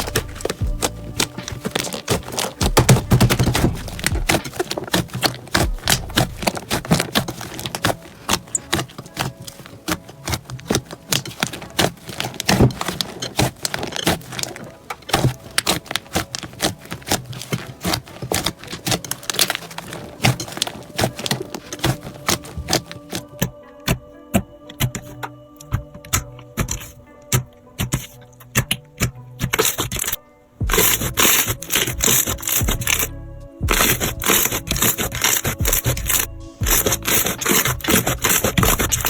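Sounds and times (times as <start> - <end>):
slime crackling and popping: 0.0 - 24.0, 29.4 - 39.0.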